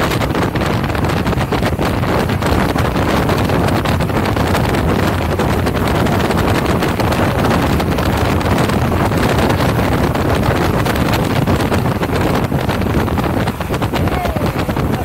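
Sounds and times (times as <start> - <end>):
speedboat engine: 0.0 - 15.0
wind buffeting microphone: 0.0 - 15.0.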